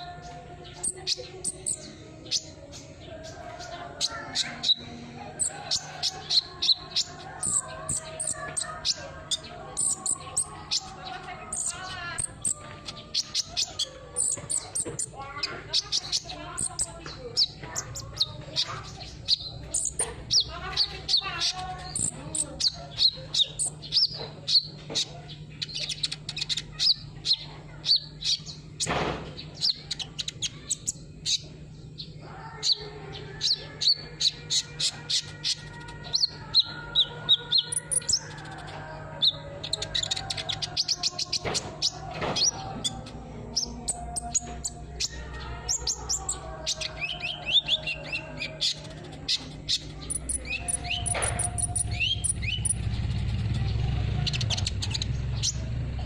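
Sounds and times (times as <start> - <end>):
bird chirping and trilling: 0.0 - 55.8.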